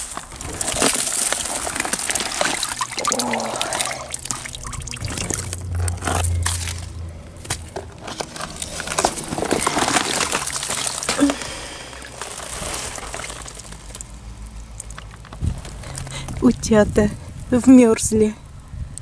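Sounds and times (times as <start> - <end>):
water splashing and trickling: 0.0 - 7.1, 8.1 - 18.7
wet leaves crackling and rustling: 0.0 - 18.7.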